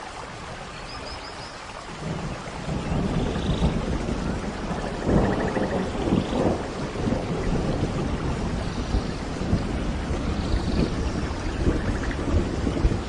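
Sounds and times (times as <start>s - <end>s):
heavy rain: 0.0s - 13.0s
low rumbling thunder: 1.9s - 13.0s.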